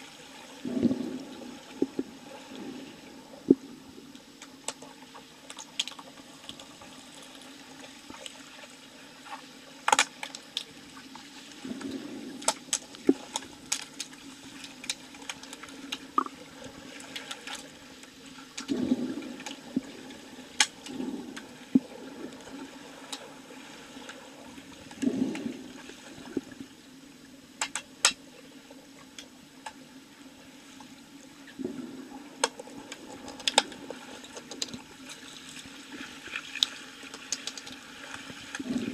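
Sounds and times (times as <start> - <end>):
underwater watery rush: 0.0 - 27.0, 30.3 - 38.9
bubbles and churning water: 0.0 - 38.9.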